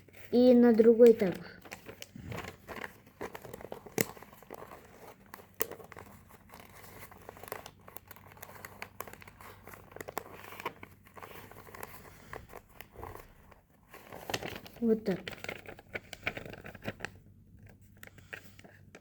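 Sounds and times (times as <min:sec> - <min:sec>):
paper folding and crinkling: 0:00.0 - 0:19.0.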